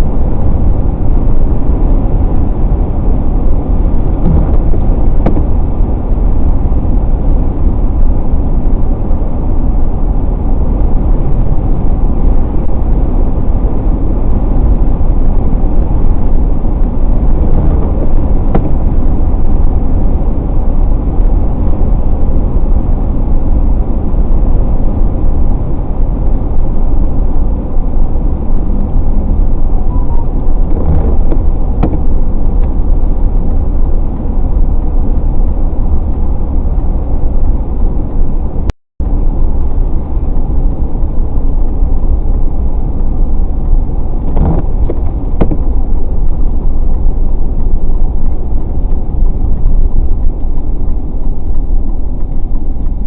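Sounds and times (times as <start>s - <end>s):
tyre and engine rumble: 0.0s - 53.0s.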